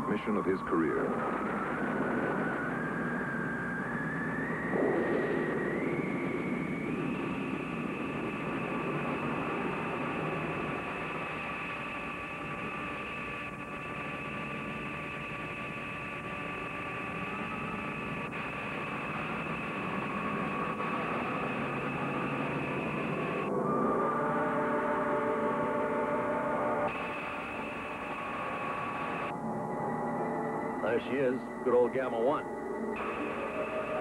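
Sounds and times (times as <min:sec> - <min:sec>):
high whine rising in pitch: 0:00.0 - 0:34.0.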